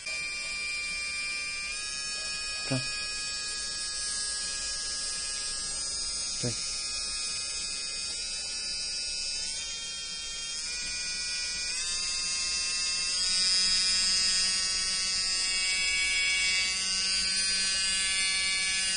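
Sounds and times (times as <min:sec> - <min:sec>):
electric drill motor whining: 0:00.0 - 0:18.9.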